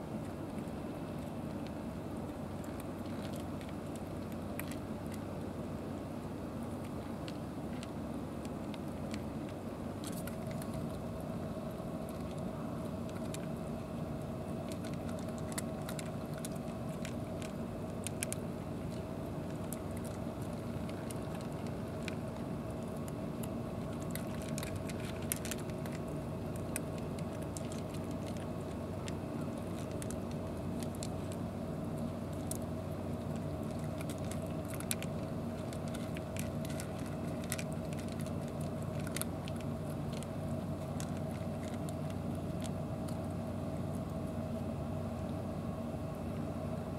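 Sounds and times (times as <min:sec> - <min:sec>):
cats crunching dry kibble: 0:00.0 - 0:45.5
low droning hum: 0:00.0 - 0:46.9.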